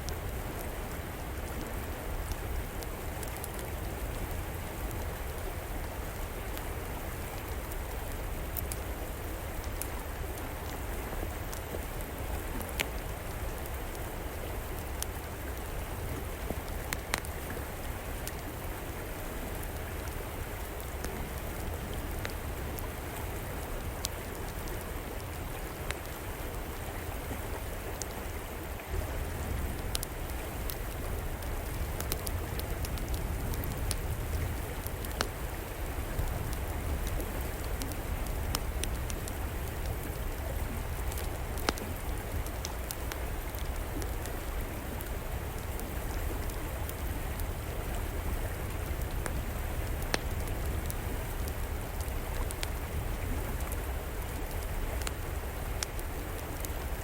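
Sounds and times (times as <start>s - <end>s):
fire crackling and popping: 0.0s - 28.4s, 29.2s - 57.0s
river flowing: 0.0s - 57.0s.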